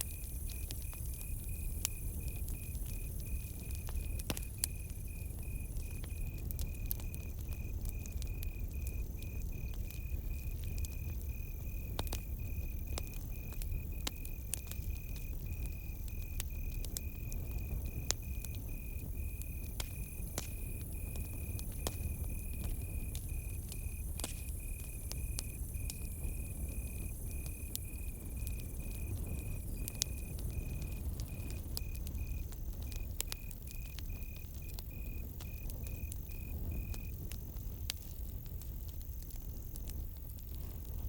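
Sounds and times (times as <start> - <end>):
campfire crackling and popping: 0.0 - 41.0
crickets chirping: 0.0 - 41.0.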